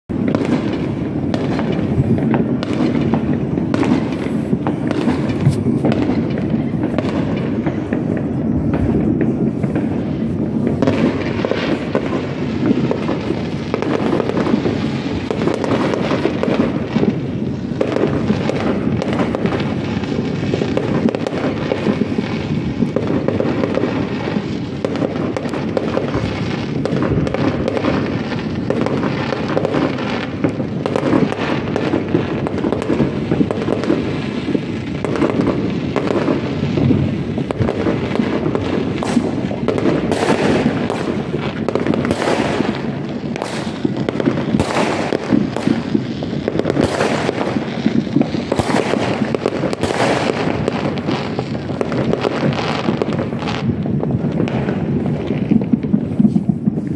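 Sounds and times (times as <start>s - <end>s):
fireworks popping and banging: 0.0s - 56.9s.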